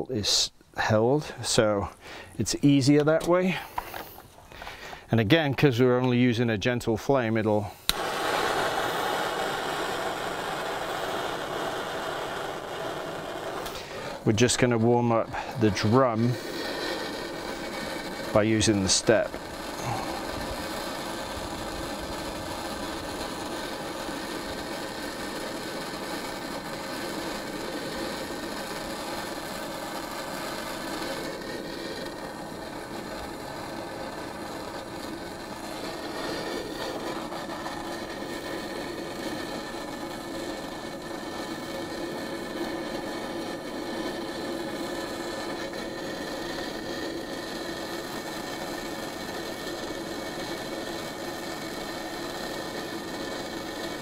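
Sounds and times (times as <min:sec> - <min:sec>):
gas torch hissing: 0:00.0 - 0:05.1, 0:07.0 - 0:54.0.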